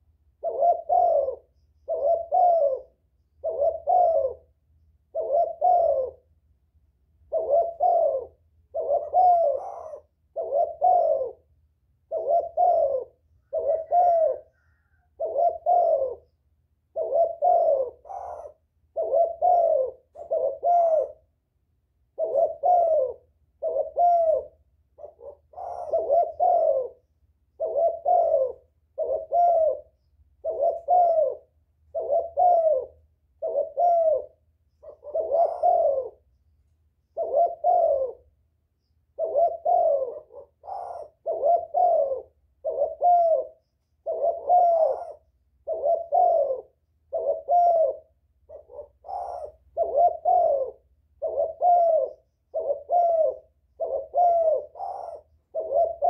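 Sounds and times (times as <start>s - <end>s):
dove cooing: 0.0s - 6.3s, 7.2s - 21.3s, 22.1s - 36.4s, 37.0s - 38.4s, 39.1s - 56.0s.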